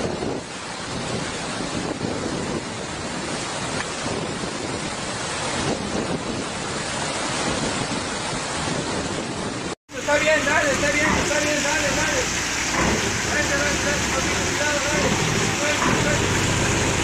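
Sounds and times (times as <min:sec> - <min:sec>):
floodwater rushing: 0:00.0 - 0:17.0
wind buffeting microphone: 0:00.0 - 0:17.0.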